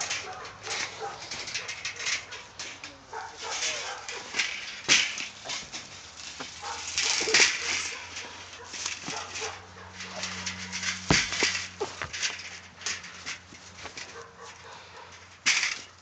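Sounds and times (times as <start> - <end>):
wire cage trap rattling: 0.0 - 16.0.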